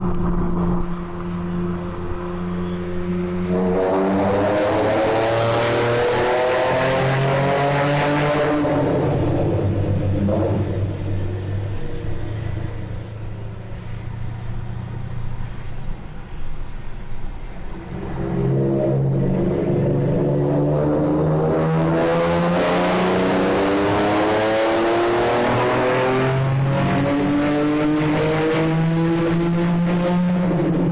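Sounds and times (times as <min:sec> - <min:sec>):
car engine accelerating in tunnel: 0:00.0 - 0:30.9.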